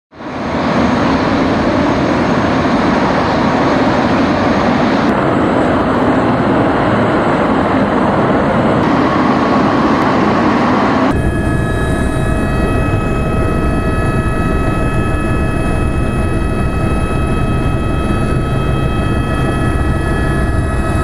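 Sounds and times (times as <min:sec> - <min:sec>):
helicopter engine and rotor: 0:00.1 - 0:21.0.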